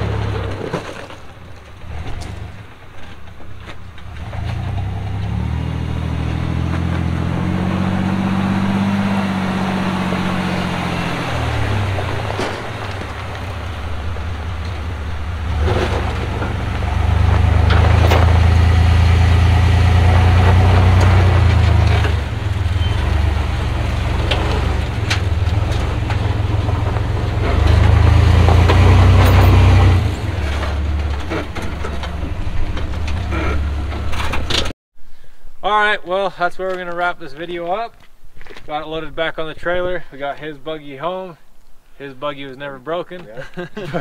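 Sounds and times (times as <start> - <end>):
off-road vehicle engine rumbling: 0.0 - 44.0.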